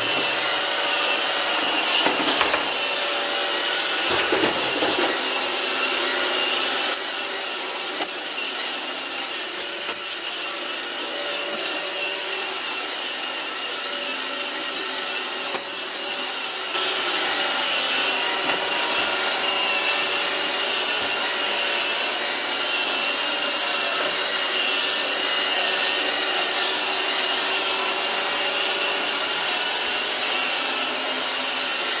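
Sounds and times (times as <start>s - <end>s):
robot vacuum whine: 0.0s - 32.0s.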